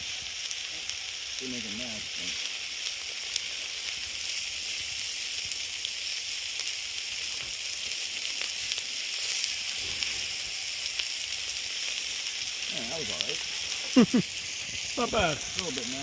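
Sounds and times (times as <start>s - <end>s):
batter sizzling on a grill: 0.0s - 16.0s.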